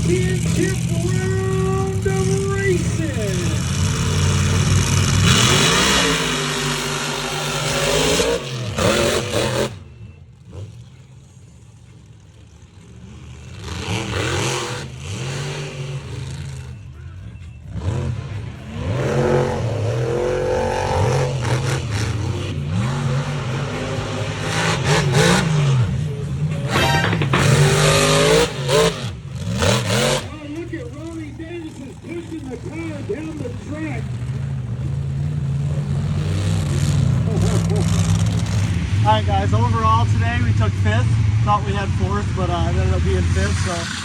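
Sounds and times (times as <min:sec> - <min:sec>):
truck engines revving: 0:00.0 - 0:44.0.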